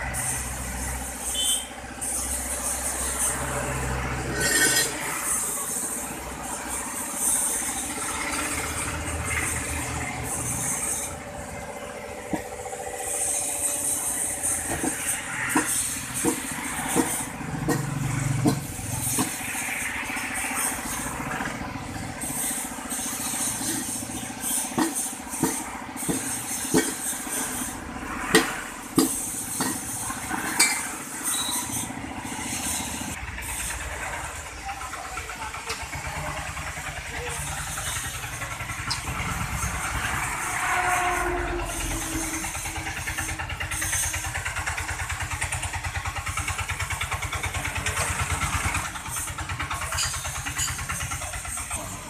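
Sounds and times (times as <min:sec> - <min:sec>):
low engine rumble: 0:00.0 - 0:52.0.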